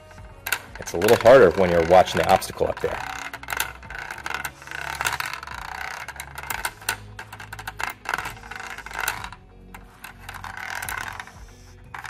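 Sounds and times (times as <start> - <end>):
plastic ball rattling: 0.0 - 12.0.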